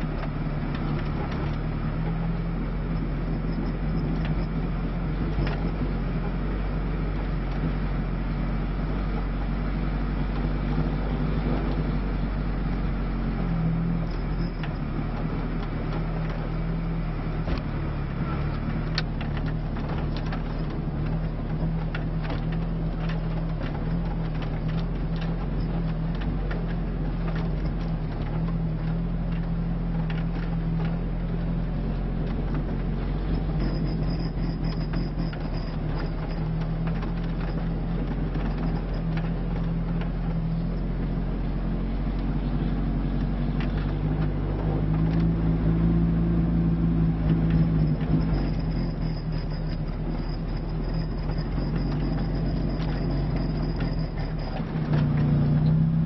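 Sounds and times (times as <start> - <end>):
car engine running under load: 0.0 - 56.0.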